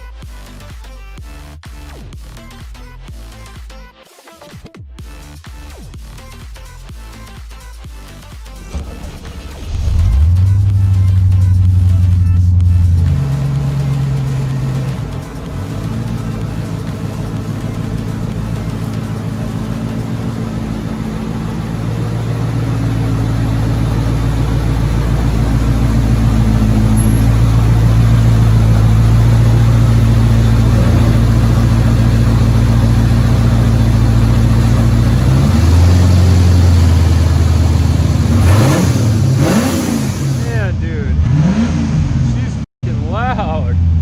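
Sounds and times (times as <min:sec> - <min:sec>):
car engine idling and revving: 0:05.0 - 0:44.0.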